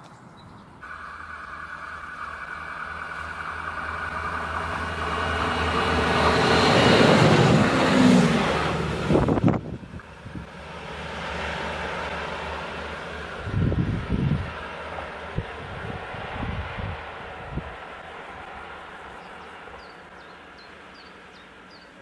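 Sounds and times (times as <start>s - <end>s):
diesel railcar passing: 0.0s - 22.0s.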